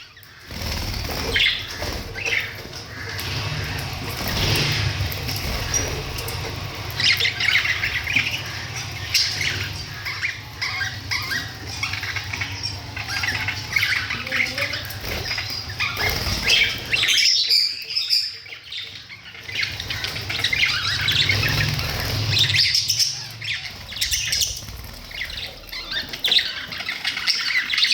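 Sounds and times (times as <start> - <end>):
parrots squawking and chattering: 0.0 - 27.9.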